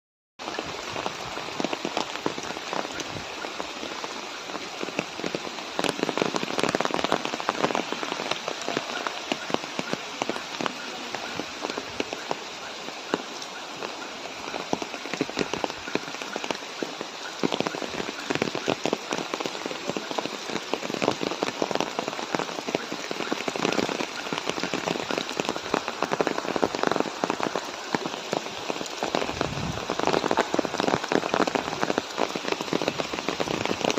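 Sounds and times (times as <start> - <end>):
rain pattering on hard surfaces: 0.4 - 33.9.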